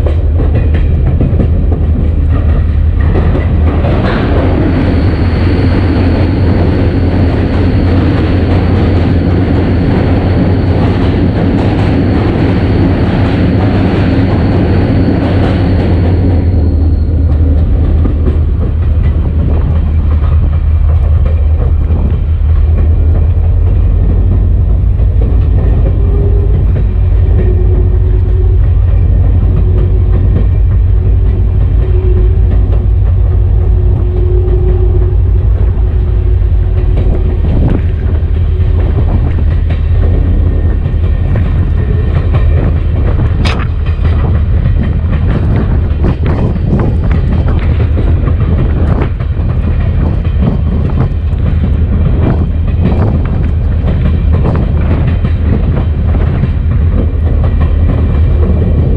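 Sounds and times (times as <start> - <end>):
diesel locomotive engine rumble: 0.0 - 58.9
wheel-on-rail noise: 0.0 - 58.9.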